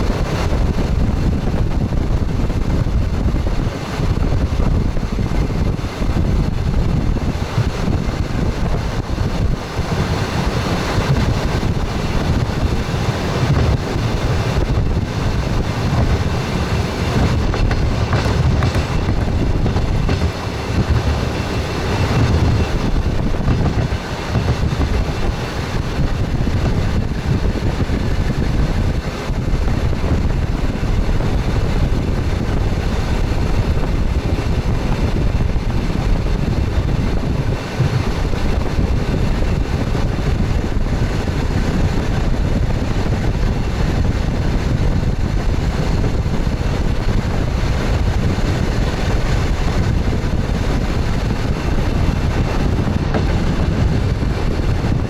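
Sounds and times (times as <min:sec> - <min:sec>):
train wheels rumbling on rails: 0:00.0 - 0:55.0
wind noise: 0:00.0 - 0:55.0.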